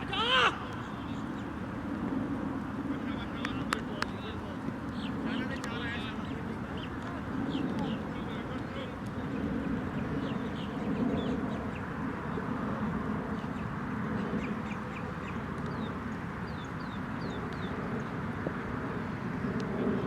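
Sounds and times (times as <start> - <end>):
birds chirping: 0.0 - 1.8, 3.0 - 12.5, 13.3 - 18.2.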